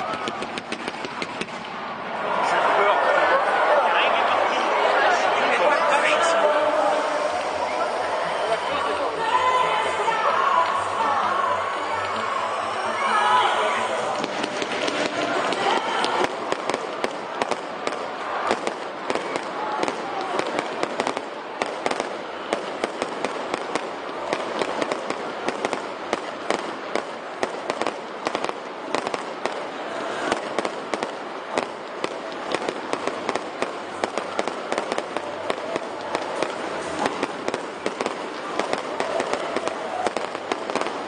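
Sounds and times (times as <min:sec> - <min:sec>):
firework crackling: 0:00.0 - 0:41.0.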